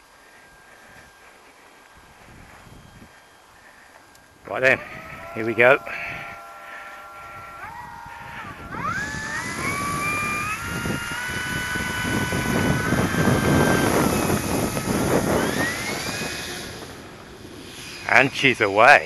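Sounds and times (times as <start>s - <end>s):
electric motor and propeller whining: 0.0s - 19.0s.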